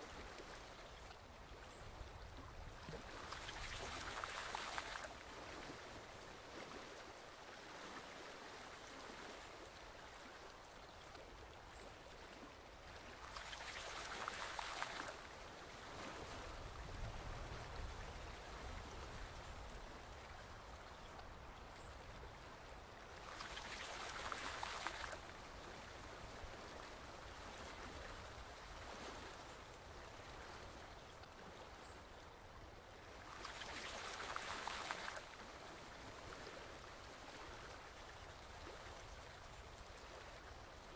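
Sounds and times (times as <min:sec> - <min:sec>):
forest stream flowing: 0:00.0 - 0:40.9.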